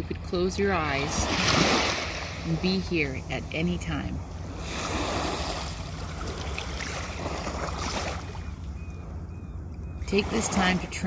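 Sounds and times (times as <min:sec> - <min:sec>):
ocean waves on shore: 0:00.0 - 0:09.2, 0:10.0 - 0:11.0
steady low rumble: 0:00.0 - 0:11.0.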